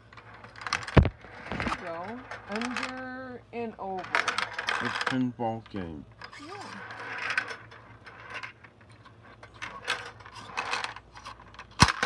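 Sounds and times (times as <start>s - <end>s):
plastic balls rattling in toy: 0.0s - 3.2s, 4.0s - 12.0s.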